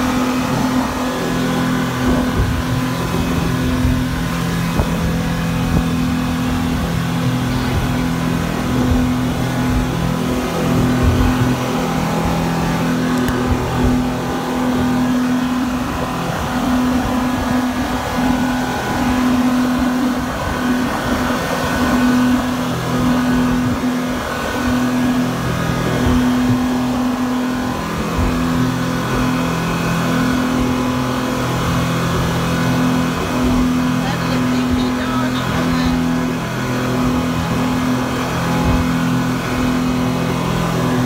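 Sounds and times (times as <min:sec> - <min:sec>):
outboard motor running: 0:00.0 - 0:41.0
wind rumble: 0:00.0 - 0:41.0.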